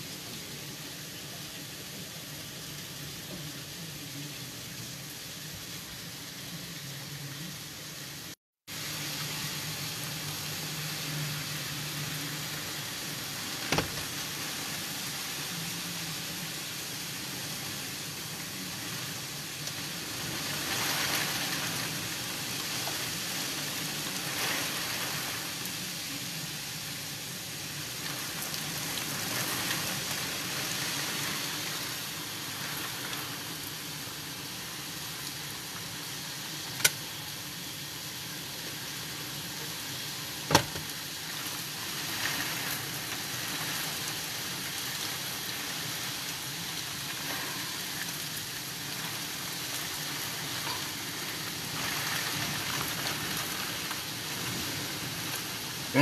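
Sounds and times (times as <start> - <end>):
heavy rain through window: 0.0 - 56.0.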